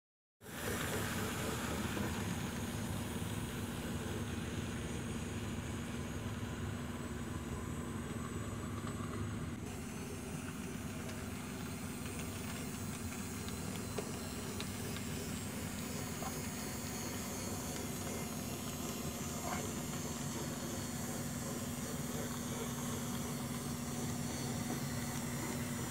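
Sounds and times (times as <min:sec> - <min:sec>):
model train motor humming: 0:00.4 - 0:25.9.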